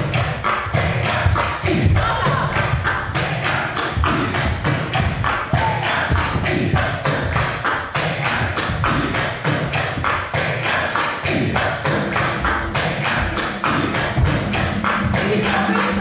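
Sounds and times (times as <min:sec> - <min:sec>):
music with fast percussion beat: 0:00.0 - 0:16.0.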